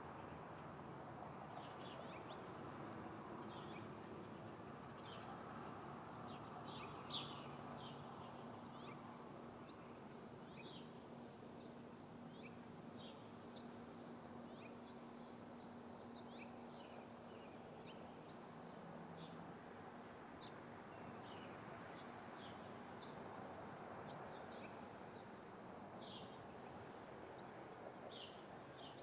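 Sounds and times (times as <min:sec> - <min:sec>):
songbirds chirping: 0:01.3 - 0:29.0.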